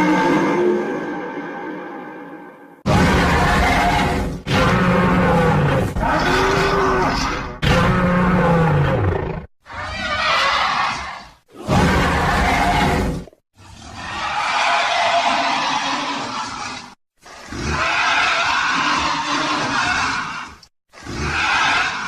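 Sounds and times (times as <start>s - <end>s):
monster roars: 2.9s - 22.0s.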